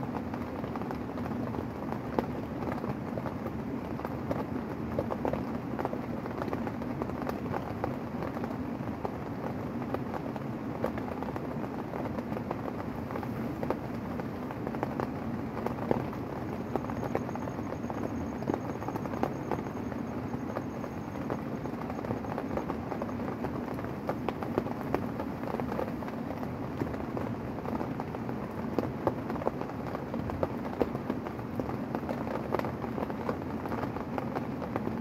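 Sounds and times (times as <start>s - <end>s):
rain on a tent: 0.0s - 35.0s.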